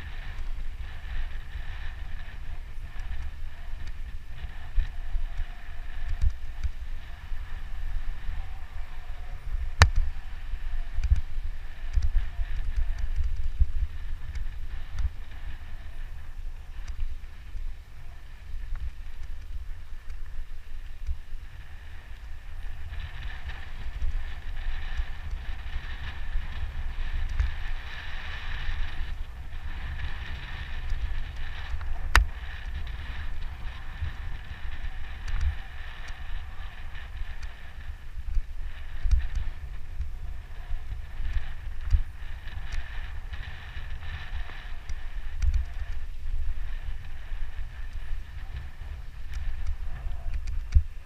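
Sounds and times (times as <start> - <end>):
bike tyres rolling on dirt: 0.0 - 51.0
wind buffeting microphone: 0.0 - 51.0.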